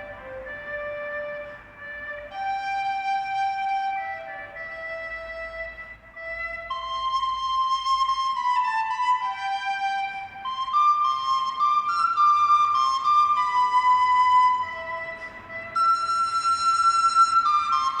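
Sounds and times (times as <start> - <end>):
slow melody of held notes: 0.0 - 18.0.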